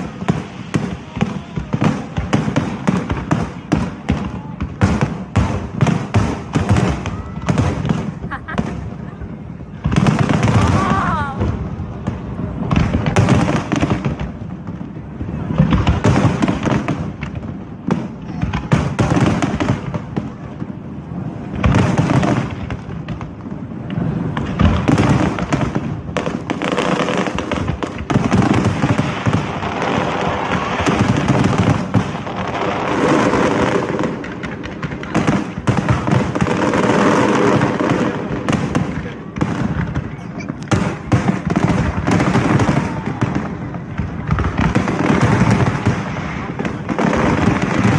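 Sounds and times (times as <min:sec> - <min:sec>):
fireworks bursting and crackling: 0:00.0 - 0:47.9
voices of onlookers: 0:00.0 - 0:47.9.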